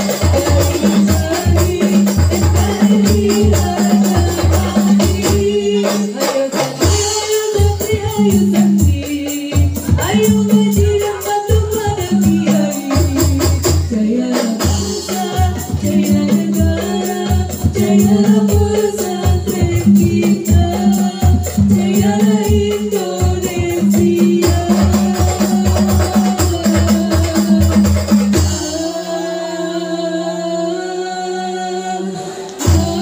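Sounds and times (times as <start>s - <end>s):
deep drum beats: 0.0s - 28.9s, 32.6s - 33.0s
frame drums: 0.0s - 29.3s, 32.5s - 33.0s
women singing together: 0.0s - 33.0s.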